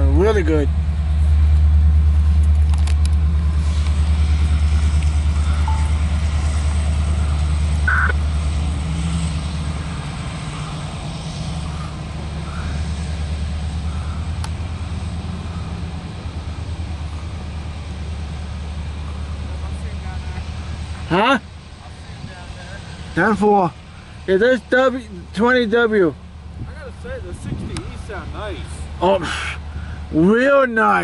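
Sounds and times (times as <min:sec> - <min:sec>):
deep pulsing locomotive engine rumble: 0:00.0 - 0:31.0.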